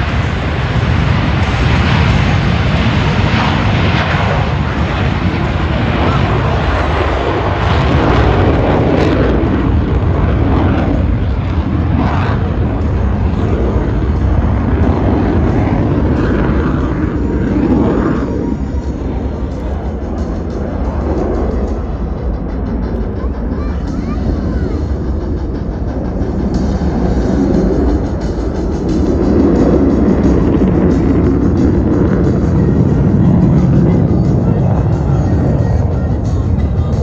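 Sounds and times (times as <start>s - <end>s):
jet roar flying past: 0.0s - 37.0s.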